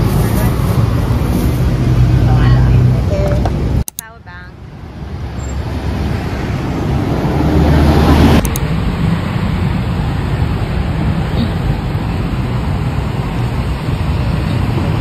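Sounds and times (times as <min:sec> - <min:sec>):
bus passing close: 0:00.0 - 0:15.0
street traffic: 0:00.0 - 0:15.0.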